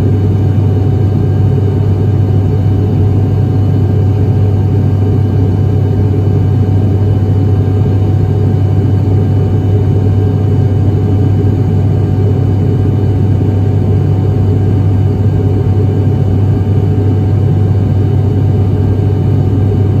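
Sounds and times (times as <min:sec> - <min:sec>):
turboprop engines running: 0:00.0 - 0:20.0.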